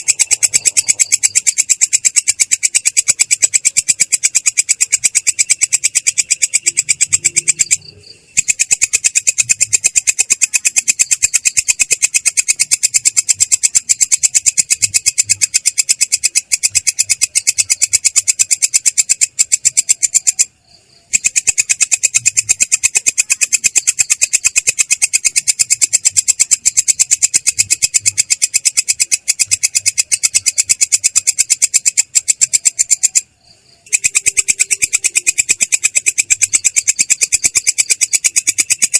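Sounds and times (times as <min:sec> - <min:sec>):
katydid trilling: 0:00.0 - 0:38.9.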